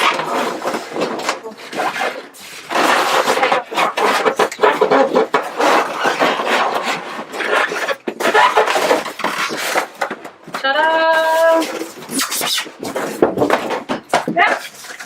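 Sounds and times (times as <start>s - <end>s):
styrofoam and plastic rustling: 0.0s - 15.0s.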